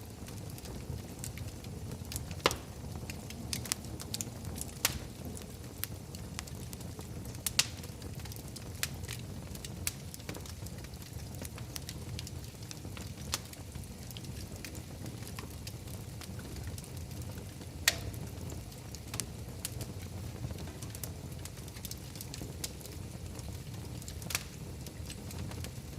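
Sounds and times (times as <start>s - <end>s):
fire flames rumbling: 0.0s - 25.9s
fire pops and snaps: 0.1s - 25.9s.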